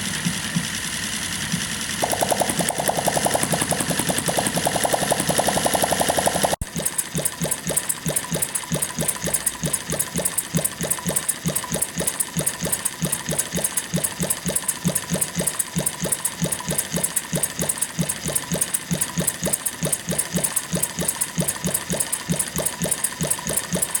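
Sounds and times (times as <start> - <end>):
model engine running: 0.0 - 24.0.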